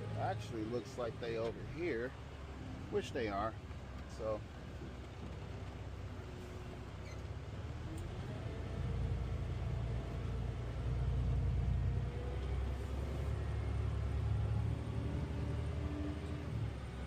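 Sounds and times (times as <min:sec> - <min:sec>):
diesel engine low rumble: 0:00.0 - 0:17.0.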